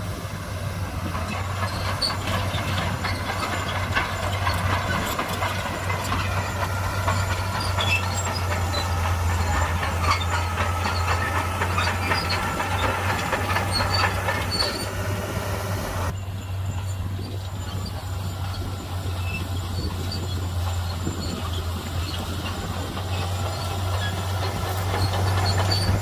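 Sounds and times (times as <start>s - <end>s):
bulldozer diesel engine hum: 0.0s - 26.0s
steel tracks clattering: 0.0s - 26.0s
track squeaks: 0.0s - 26.0s.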